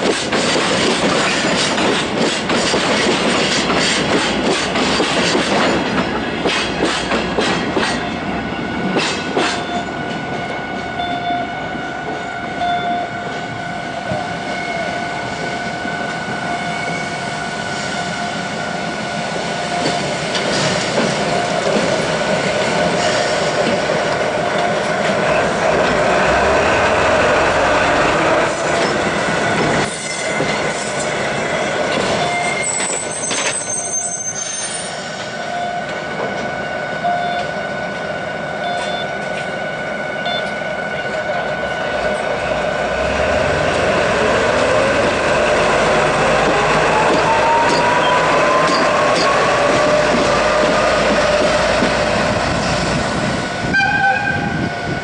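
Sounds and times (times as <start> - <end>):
diesel locomotive whine: 0.8 - 55.0.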